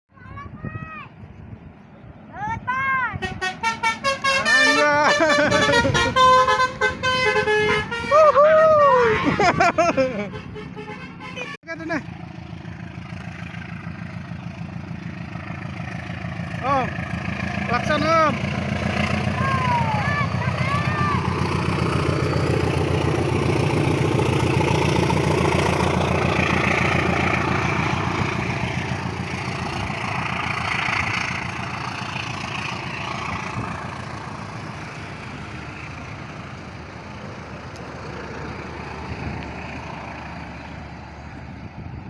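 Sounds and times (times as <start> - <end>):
heavy vehicle engine rumbling: 0.1 - 42.0.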